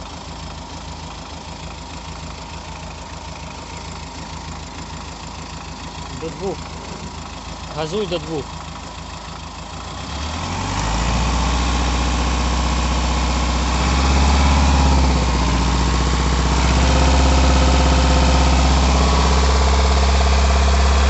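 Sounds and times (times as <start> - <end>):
diesel engine revving: 3.2 - 21.0.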